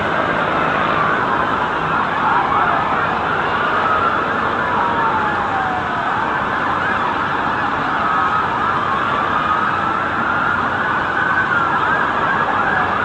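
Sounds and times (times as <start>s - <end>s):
sirens wailing: 0.0s - 13.0s.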